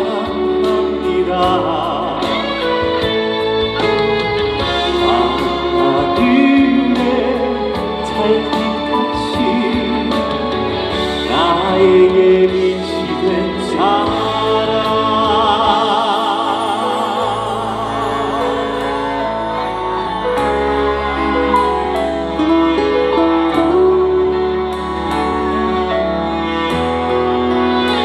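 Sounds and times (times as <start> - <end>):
bass: 0.0 - 28.0
gliding lead melody: 0.0 - 28.0.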